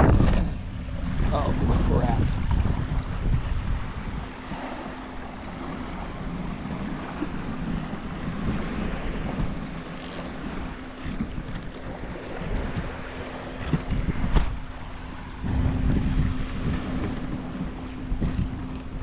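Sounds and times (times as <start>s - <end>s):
small waves lapping: 0.0s - 19.0s
wind buffeting microphone: 0.0s - 19.0s.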